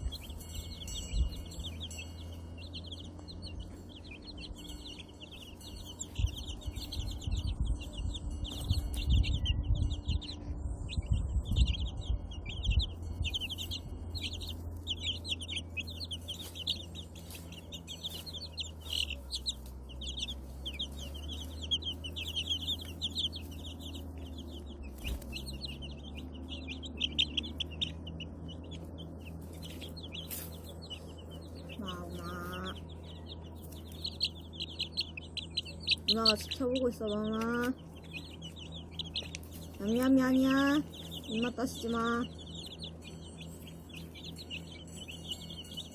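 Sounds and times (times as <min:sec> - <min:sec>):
chicks peeping: 0:00.0 - 0:45.9
low rumbling thumps: 0:00.0 - 0:45.9.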